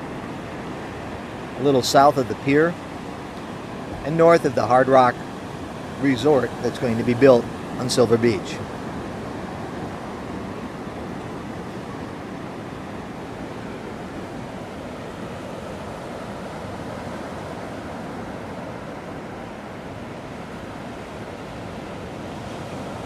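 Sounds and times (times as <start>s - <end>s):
waves breaking on beach: 0.0s - 23.0s
wind: 0.0s - 23.0s.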